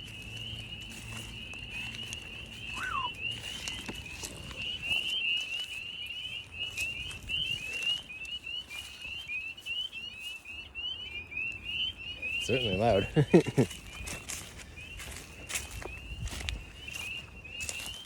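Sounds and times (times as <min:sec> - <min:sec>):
frogs peeping chorus: 0:00.0 - 0:18.0.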